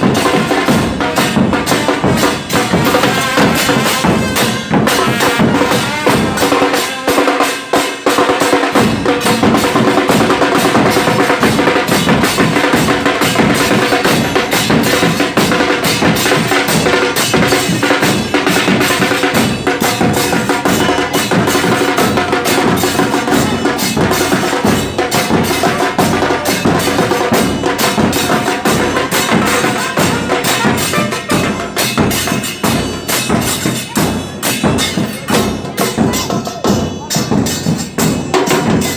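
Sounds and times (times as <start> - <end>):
drums beating a driving rhythm: 0.0 - 38.9.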